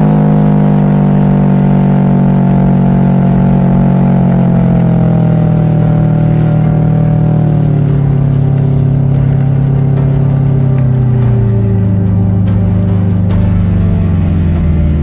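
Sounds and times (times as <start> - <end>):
car engine and exhaust rumble: 0.0 - 15.0.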